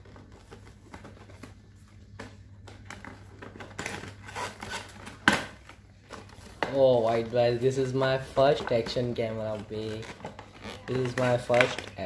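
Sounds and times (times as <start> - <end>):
cardboard rustling and scraping: 0.0 - 12.0.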